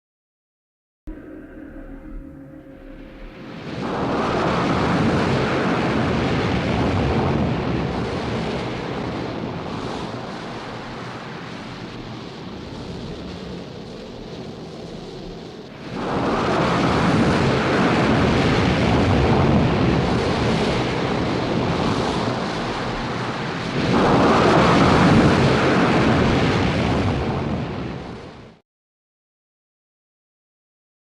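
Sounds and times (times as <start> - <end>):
storm wind rushing: 1.1 - 28.6.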